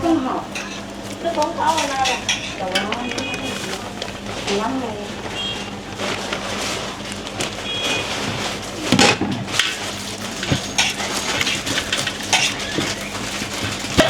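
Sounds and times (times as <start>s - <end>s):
dishes and utensils clattering: 0.0s - 14.0s.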